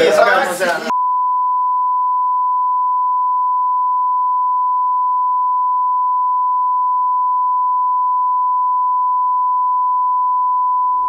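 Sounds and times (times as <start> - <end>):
sine test tone: 0.9 - 11.0.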